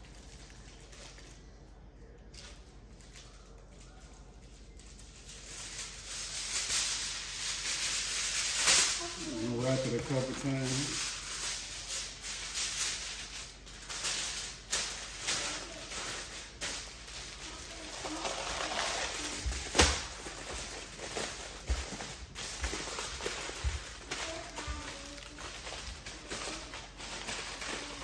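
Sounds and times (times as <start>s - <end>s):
foil crinkling and rustling: 0.0s - 28.0s.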